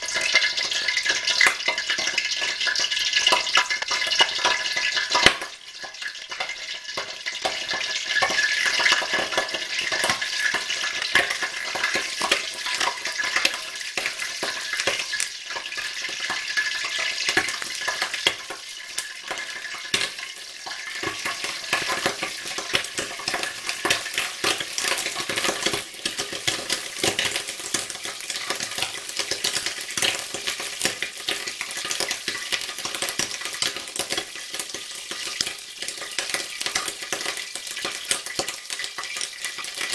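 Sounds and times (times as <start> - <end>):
oil sizzling and spattering: 0.0 - 39.9.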